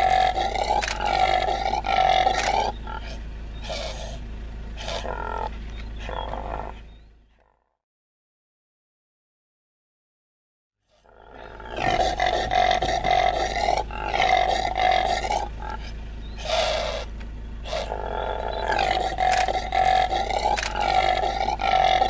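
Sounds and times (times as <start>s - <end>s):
impala calling: 0.0s - 7.7s, 10.9s - 22.0s.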